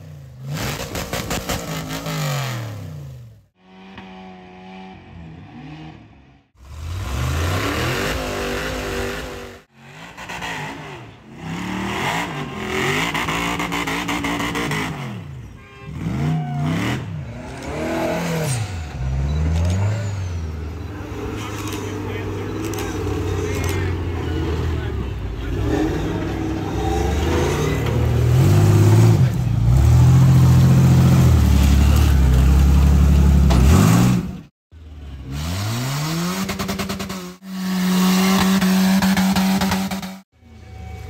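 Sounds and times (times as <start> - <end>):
buggy engines revving: 0.0 - 41.0.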